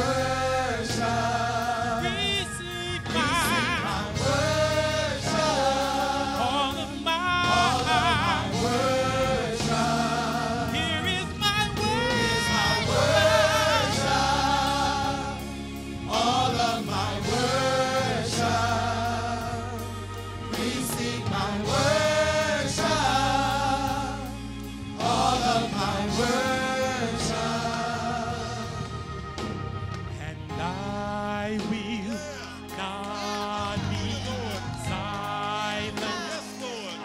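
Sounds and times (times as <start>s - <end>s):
gospel vocal group singing: 0.0s - 37.0s
low instrumental accompaniment: 0.0s - 37.0s.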